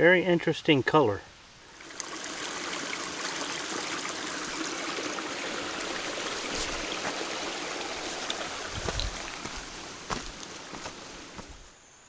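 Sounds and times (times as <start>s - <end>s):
stream water flowing: 1.6s - 11.7s.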